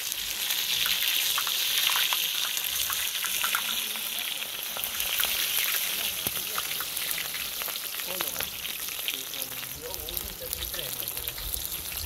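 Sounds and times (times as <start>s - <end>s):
steak deep-frying in hot oil: 0.0s - 12.0s.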